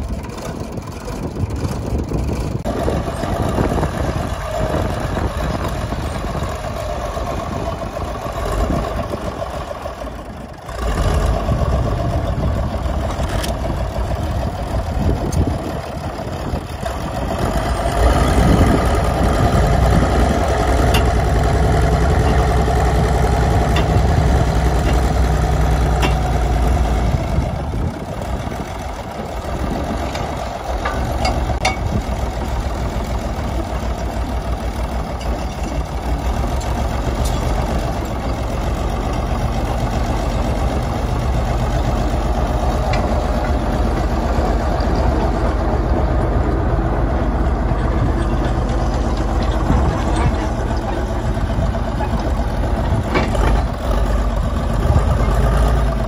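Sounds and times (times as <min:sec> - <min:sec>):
bulldozer diesel engine running: 0:00.0 - 0:56.0
tracks driving on gravel: 0:10.0 - 0:56.0.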